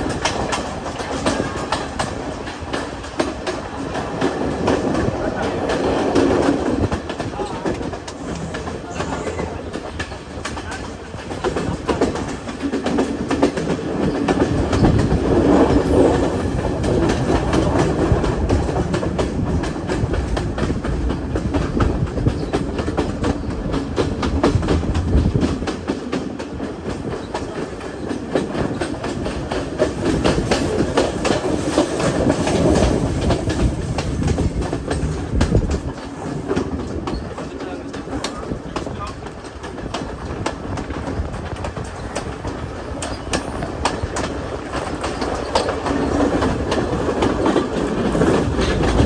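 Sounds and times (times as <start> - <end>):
train wheels clattering over rails: 0.0 - 49.0.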